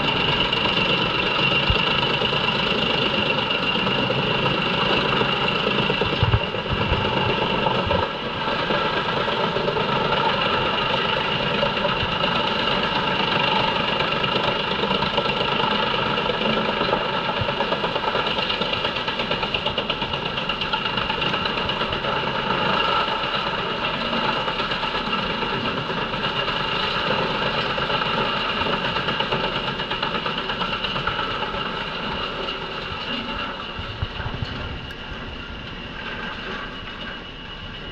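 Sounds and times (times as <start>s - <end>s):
wood chipper chipping logs: 0.0s - 34.5s.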